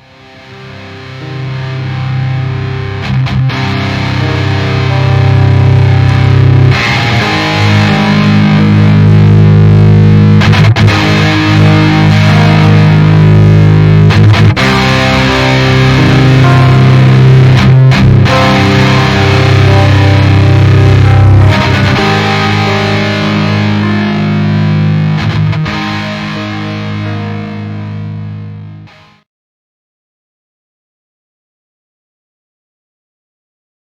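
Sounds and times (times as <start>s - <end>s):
distorted electric guitar chords: 0.0s - 29.2s.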